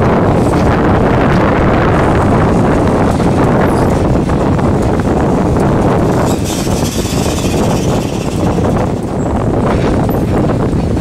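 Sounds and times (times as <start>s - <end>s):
freight train wheels rumbling: 0.0s - 11.0s
wind buffeting microphone: 0.0s - 11.0s.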